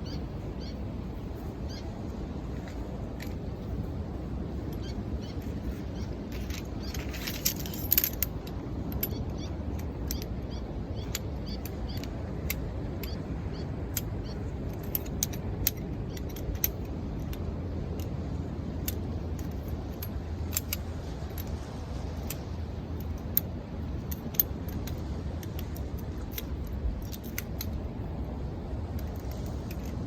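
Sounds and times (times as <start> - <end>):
waves rushing: 0.0 - 30.0.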